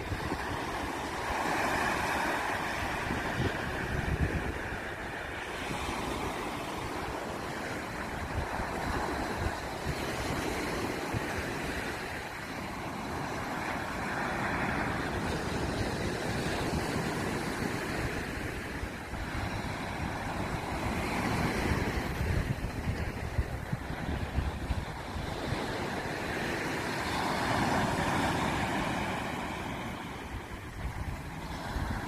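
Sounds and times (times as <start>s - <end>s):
surf washing onto beach: 0.0s - 32.0s
wind on microphone: 0.0s - 32.0s.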